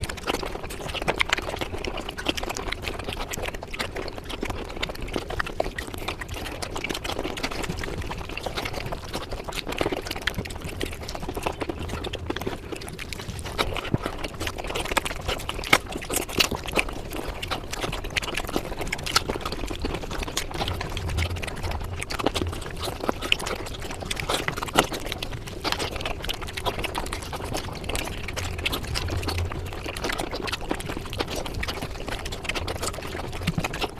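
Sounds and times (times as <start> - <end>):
sped-up chewing clicks: 0.0 - 33.9.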